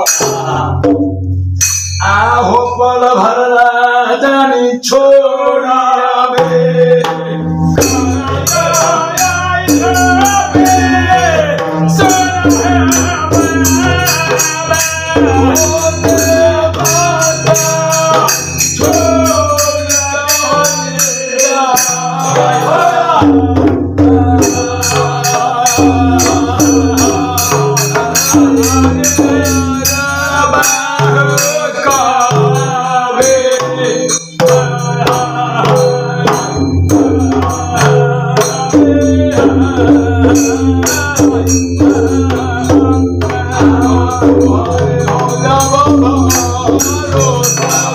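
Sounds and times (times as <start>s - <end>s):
devotional singing: 0.0s - 1.0s, 2.0s - 47.9s
hand cymbals clashing: 0.0s - 2.5s, 7.5s - 23.3s, 24.0s - 47.9s
hand drum rhythm: 0.0s - 2.5s, 6.4s - 47.9s.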